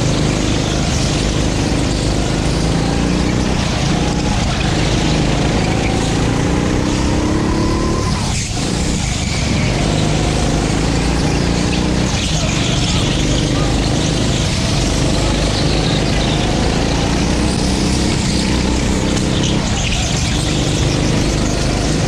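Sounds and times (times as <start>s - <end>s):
go-kart engine under throttle: 0.0s - 22.0s.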